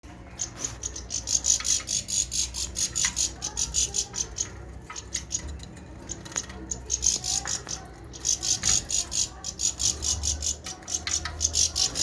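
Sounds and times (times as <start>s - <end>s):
bird chirps: 0.2s - 12.0s.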